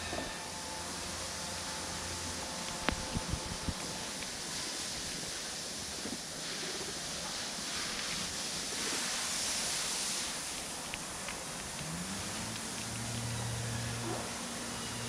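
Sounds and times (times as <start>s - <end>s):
wind-like hiss: 0.0s - 15.0s
faint ticks and rustles: 2.2s - 14.4s.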